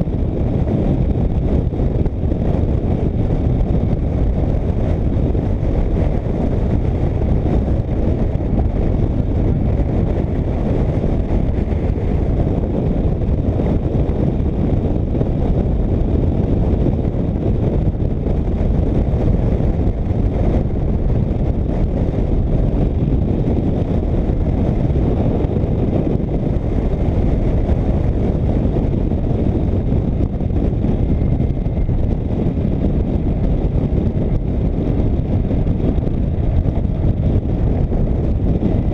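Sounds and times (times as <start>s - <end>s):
motorcycle engine rumble: 0.0s - 38.9s
wind rushing over microphone: 0.0s - 38.9s.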